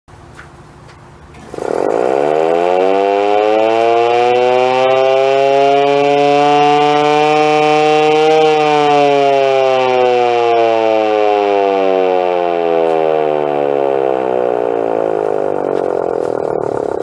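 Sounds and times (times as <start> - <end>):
siren winding up: 1.4 - 17.0.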